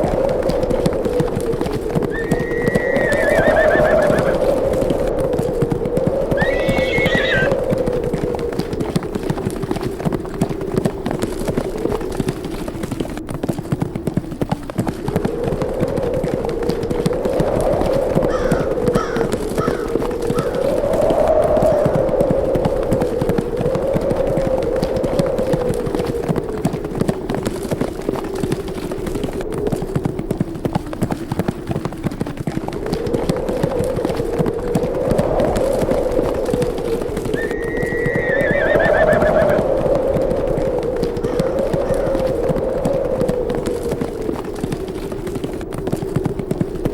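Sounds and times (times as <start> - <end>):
horses galloping: 0.0 - 46.9
wind howling: 0.0 - 46.9.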